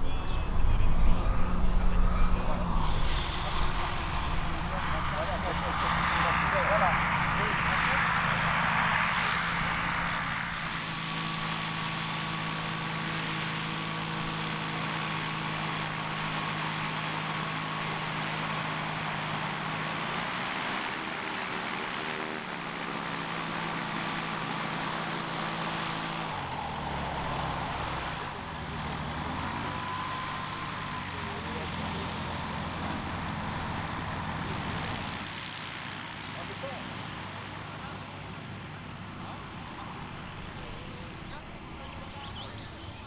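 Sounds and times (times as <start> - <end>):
light aircraft engine droning: 0.0 - 43.0.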